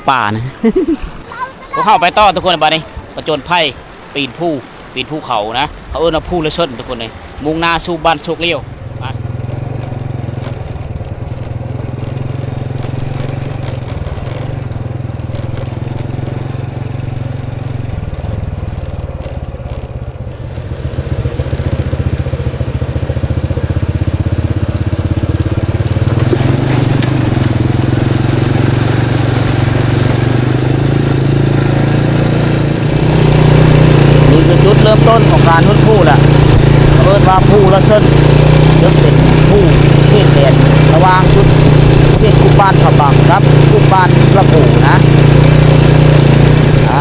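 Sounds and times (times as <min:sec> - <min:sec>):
motorcycle engine under load: 0:08.7 - 0:47.0.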